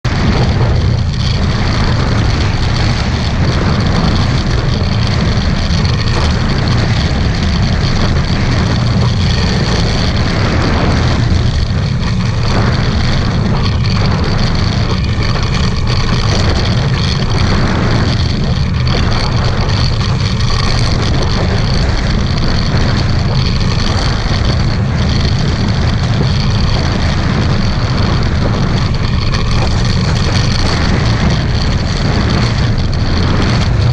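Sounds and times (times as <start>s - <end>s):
choppy water against hulls: 0.0s - 33.9s
strong wind on microphone: 0.0s - 33.9s.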